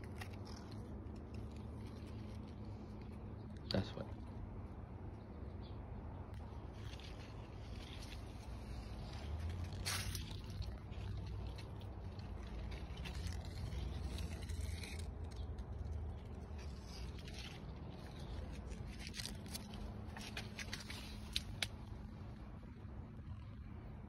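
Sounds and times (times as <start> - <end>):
leaves rustling against phone: 0.0 - 4.3, 6.3 - 22.4
low steady rumble: 0.0 - 24.0.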